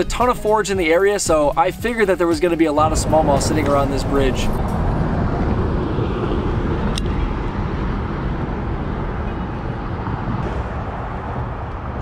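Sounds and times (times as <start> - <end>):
low rumbling background noise: 2.4 - 12.0.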